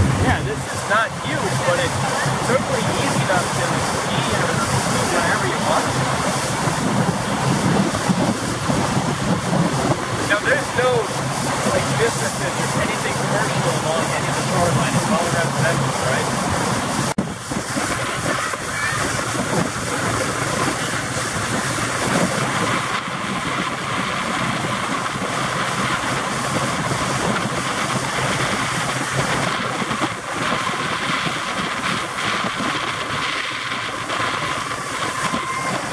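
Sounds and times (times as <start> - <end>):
boat motor humming: 0.0 - 35.9
wind and water rushing: 0.0 - 35.9.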